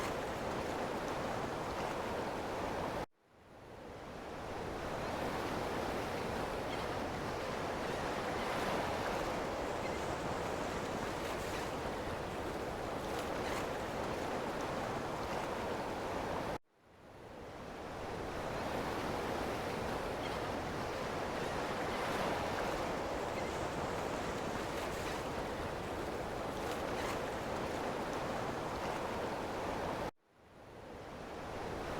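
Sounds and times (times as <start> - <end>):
ocean waves on shore: 0.0 - 3.1, 3.8 - 16.6, 17.3 - 30.1, 30.7 - 31.9.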